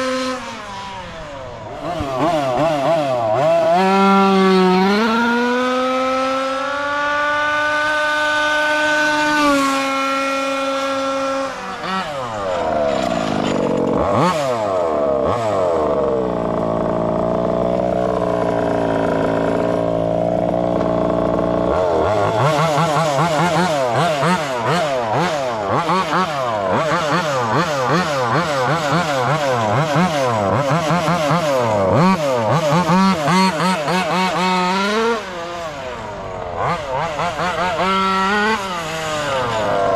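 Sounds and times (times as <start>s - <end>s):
small two-stroke engine revving: 0.0s - 39.9s.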